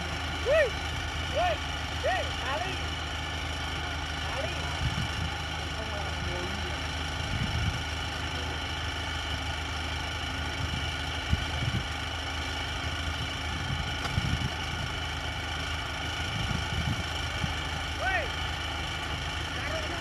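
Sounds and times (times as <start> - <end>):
combine harvester engine droning: 0.0 - 20.0.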